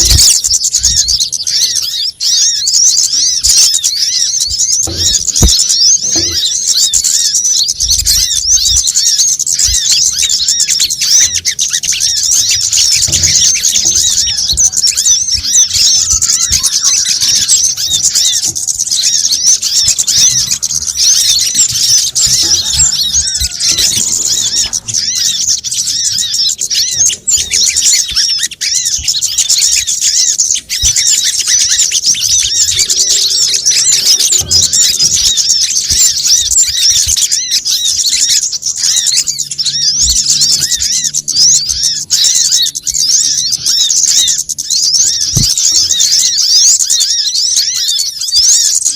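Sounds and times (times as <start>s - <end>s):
small birds chirping and twittering: 0.0s - 48.9s.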